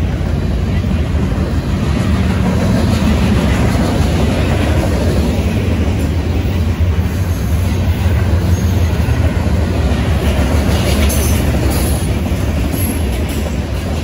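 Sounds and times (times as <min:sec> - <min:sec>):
steel wheels rumbling on rail: 0:00.0 - 0:14.0.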